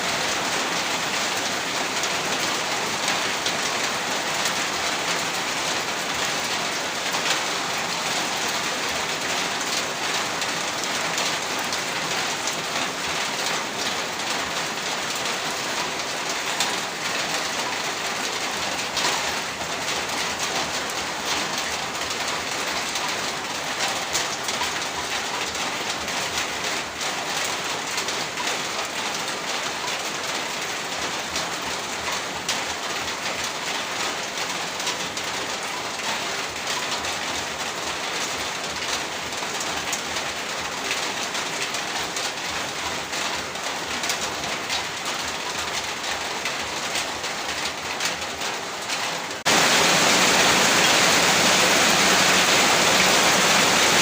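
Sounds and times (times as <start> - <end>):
heavy rain on a rooftop: 0.0 - 54.0.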